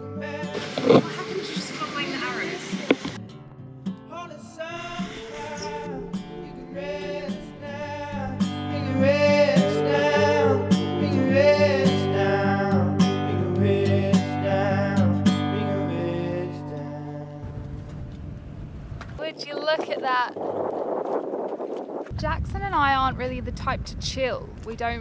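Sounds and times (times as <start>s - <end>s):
acoustic guitar song: 0.0s - 20.3s.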